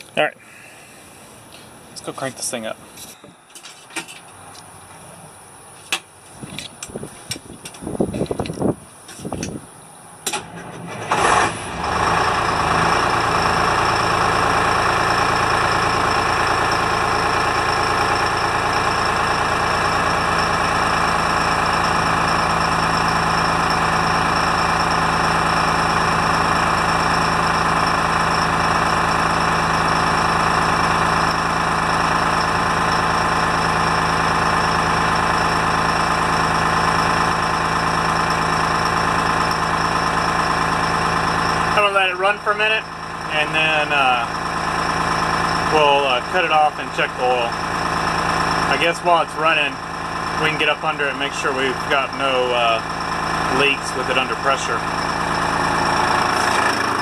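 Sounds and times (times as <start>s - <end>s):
diesel engine starting and idling: 0.0s - 57.0s
high whine: 6.2s - 57.0s.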